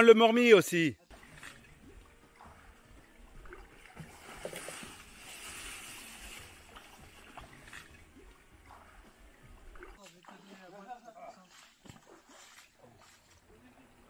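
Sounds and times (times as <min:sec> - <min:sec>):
net swishing through water: 0:01.1 - 0:13.8.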